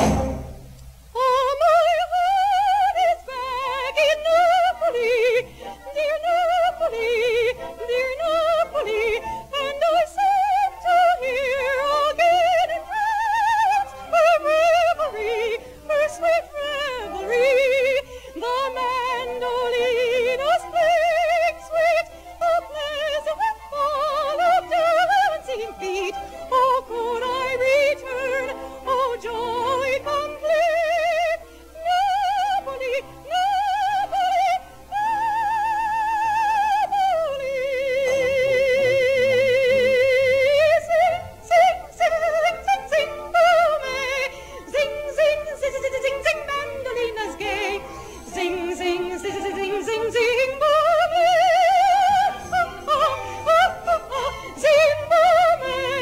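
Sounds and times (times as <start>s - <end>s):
soprano singing operatically: 1.1s - 56.0s.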